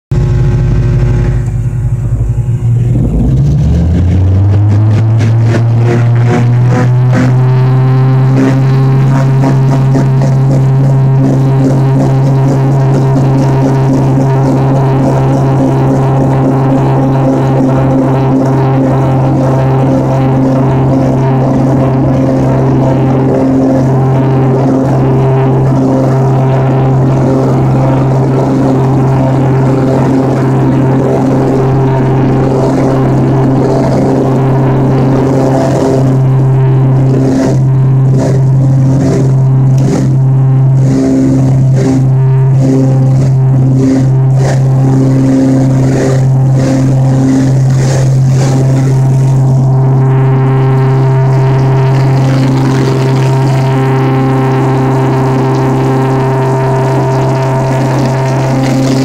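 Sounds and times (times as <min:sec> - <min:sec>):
propeller plane engines droning: 0:00.1 - 0:59.0
rattling crackles: 0:00.1 - 0:59.0.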